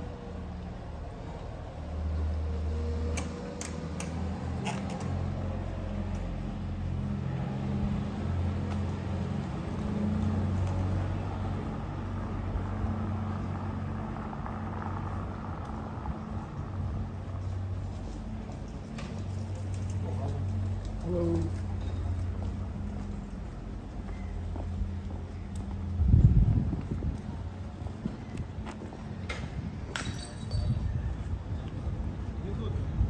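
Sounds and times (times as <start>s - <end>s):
steady low street rumble: 0.0s - 33.0s.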